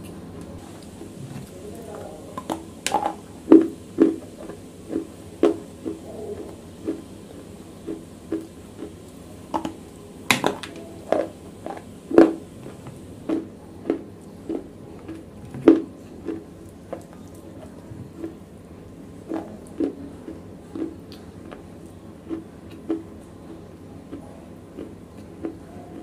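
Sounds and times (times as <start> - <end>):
crisp crunching and chewing: 0.6 - 26.0.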